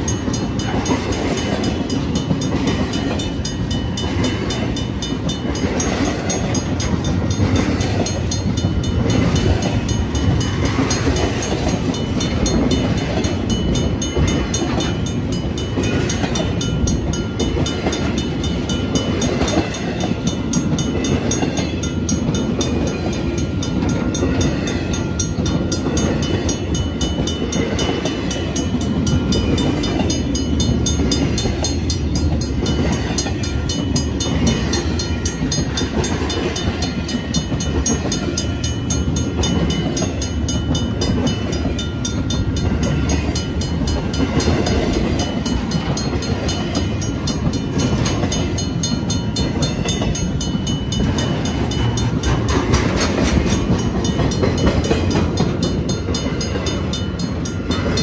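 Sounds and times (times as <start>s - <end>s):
crossing bell ringing: 0.0s - 58.0s
freight train wheels rumbling: 0.0s - 58.0s.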